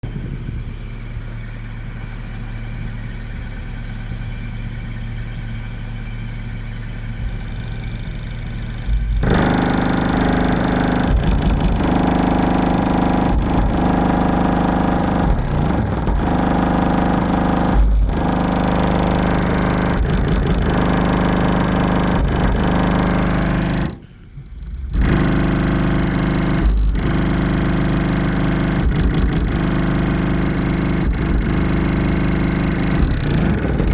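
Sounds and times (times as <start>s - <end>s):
subwoofer distorted bass buzz: 0.0s - 33.9s.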